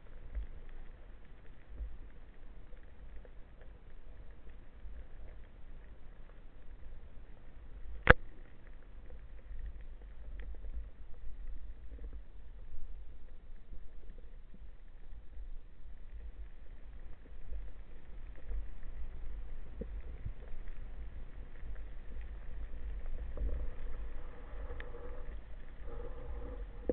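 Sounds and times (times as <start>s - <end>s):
faint ticks and click: 0.0s - 26.9s
low rumble of water: 0.0s - 26.9s.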